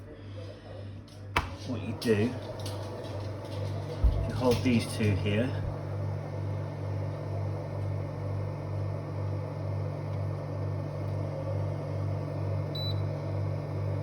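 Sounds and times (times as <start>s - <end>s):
wine fridge humming: 1.2s - 14.0s.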